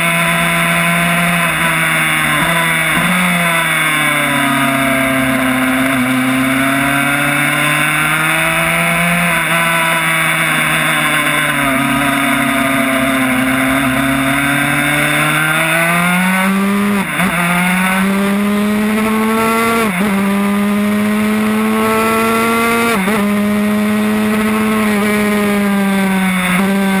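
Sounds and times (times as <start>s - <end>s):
two-stroke motorcycle engine revving: 0.0s - 27.0s.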